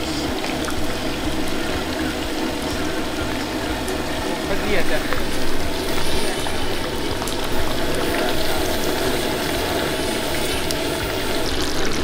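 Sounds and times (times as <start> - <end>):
hot oil sizzling and bubbling: 0.0 - 12.0.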